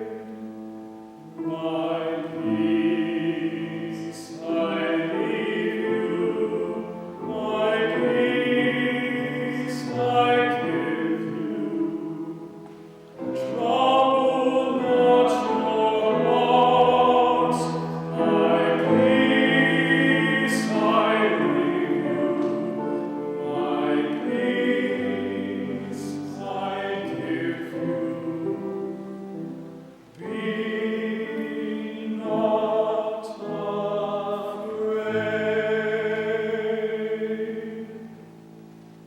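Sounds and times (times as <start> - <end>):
choir singing held notes: 0.0 - 39.0
sustained accompaniment: 0.0 - 39.0.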